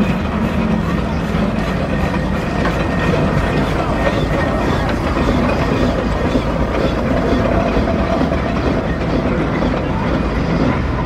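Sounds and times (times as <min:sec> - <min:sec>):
steam engines driving past: 0:00.0 - 0:11.0.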